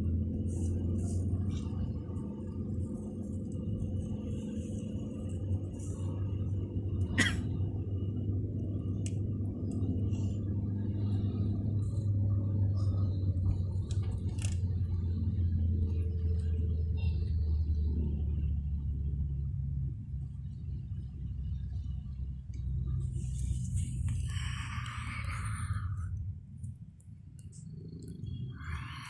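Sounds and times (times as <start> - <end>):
vehicle rumble from inside: 0.0 - 29.0.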